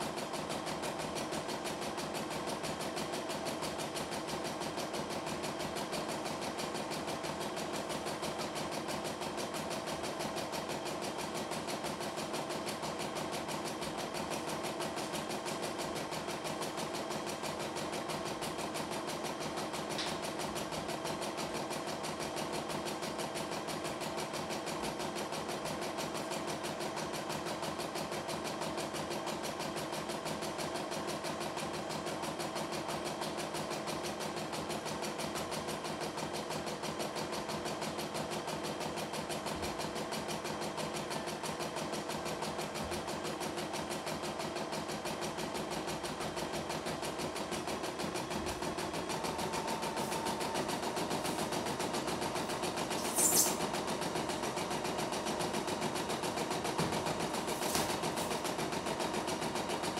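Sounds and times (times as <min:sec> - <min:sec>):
embroidery machine stitching: 0:00.0 - 0:59.9.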